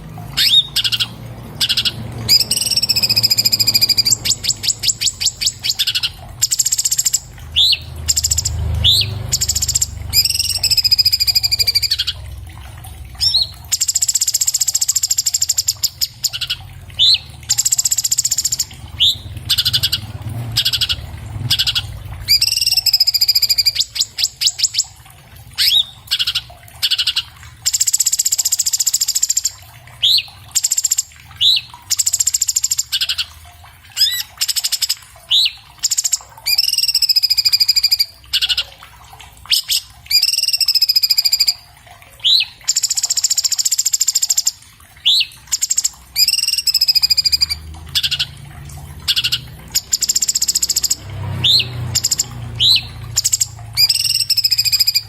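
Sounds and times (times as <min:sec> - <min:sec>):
bird singing buzzy trills: 0:00.0 - 0:12.3, 0:13.2 - 0:33.3, 0:34.0 - 0:38.7, 0:39.5 - 0:55.0.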